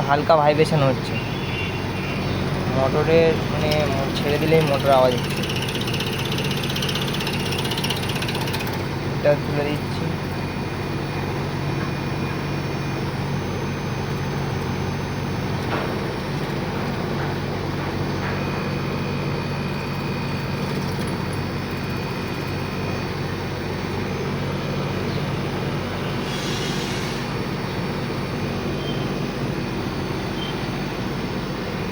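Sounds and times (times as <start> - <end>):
air conditioner motor humming: 0.0 - 31.9.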